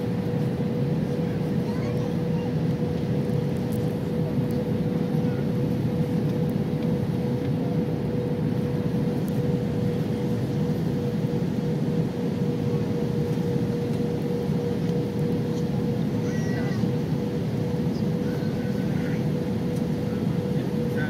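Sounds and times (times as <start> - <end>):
constant hum-like tone: 0.0 - 21.0.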